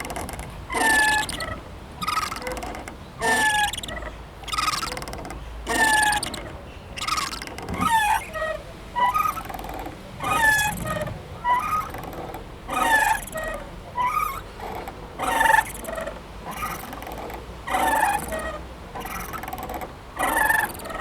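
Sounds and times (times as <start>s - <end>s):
swing squeaking: 0.0s - 21.0s.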